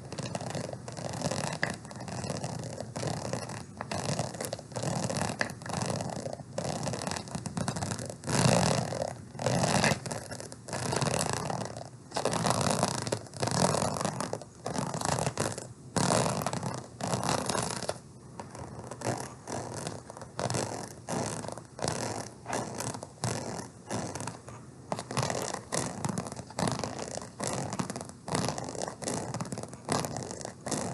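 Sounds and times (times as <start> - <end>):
purse scratching and rubbing: 0.0 - 30.9.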